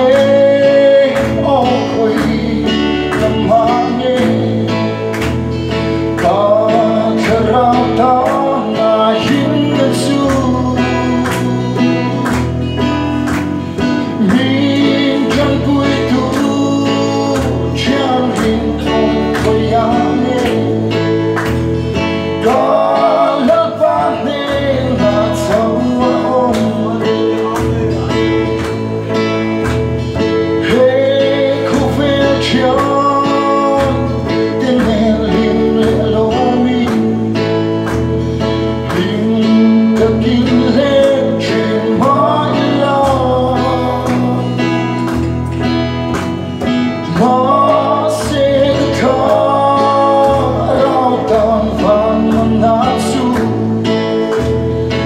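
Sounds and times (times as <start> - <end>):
man singing into a microphone: 0.0 - 13.0, 13.8 - 45.5, 46.9 - 55.0
held bass notes: 0.0 - 55.0
keyboard: 0.0 - 55.0
strummed acoustic guitar: 0.0 - 55.0.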